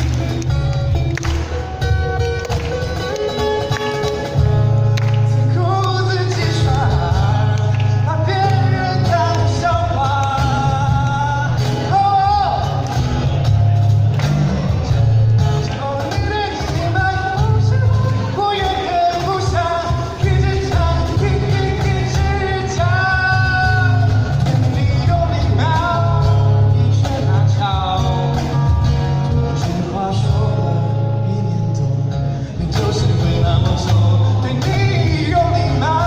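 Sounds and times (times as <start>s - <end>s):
backing track with bass: 0.0s - 36.0s
person singing karaoke: 0.0s - 36.0s.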